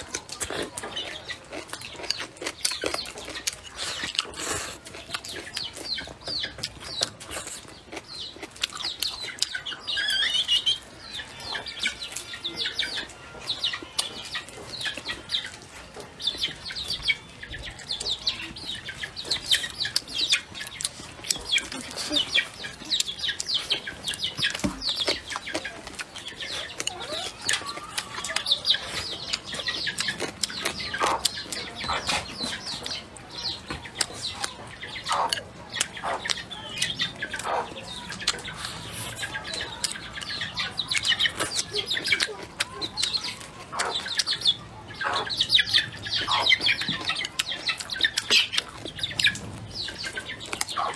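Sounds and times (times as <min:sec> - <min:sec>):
chewing and lip-smacking: 0:00.0 - 0:50.9.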